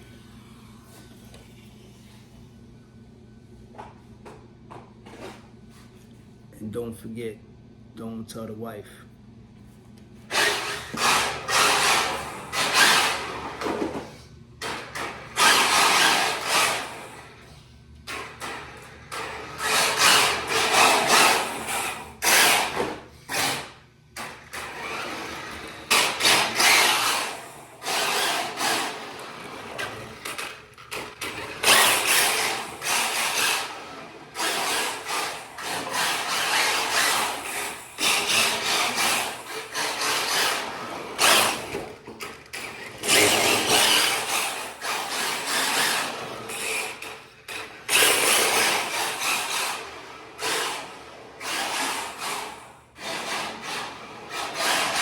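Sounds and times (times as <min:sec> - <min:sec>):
rc car motor whirring: 0:10.3 - 0:55.0.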